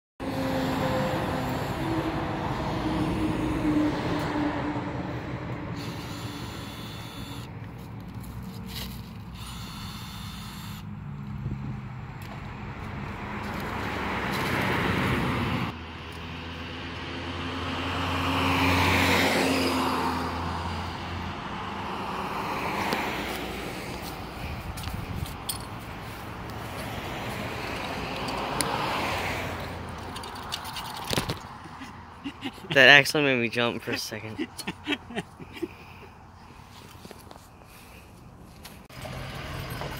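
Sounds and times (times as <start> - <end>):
cars and trucks driving by: 0.2 - 39.9
steady engine hum: 0.2 - 39.9.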